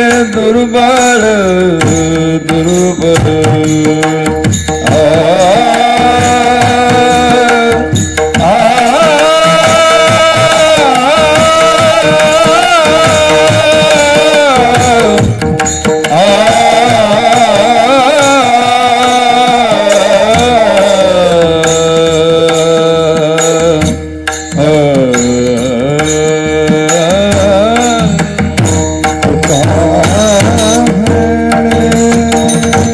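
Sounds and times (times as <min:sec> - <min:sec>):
person singing devotional melody: 0:00.0 - 0:32.9
tabla: 0:00.0 - 0:32.9.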